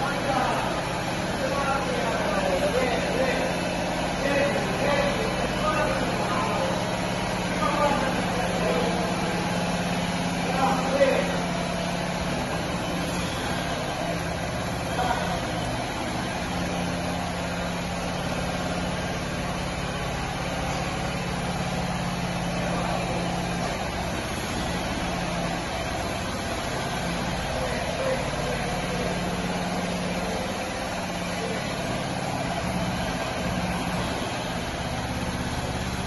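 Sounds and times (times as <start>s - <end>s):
truck engine running at low speed: 0.0s - 36.0s.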